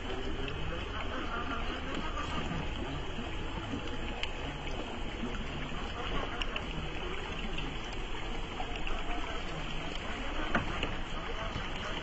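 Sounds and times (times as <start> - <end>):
water trickling over rocks: 0.0 - 12.0.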